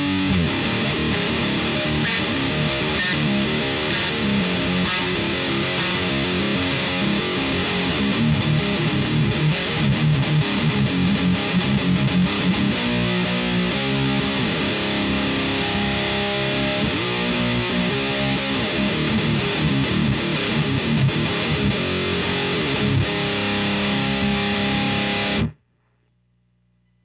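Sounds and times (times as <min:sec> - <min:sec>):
distorted electric guitar riff: 0:00.0 - 0:25.6.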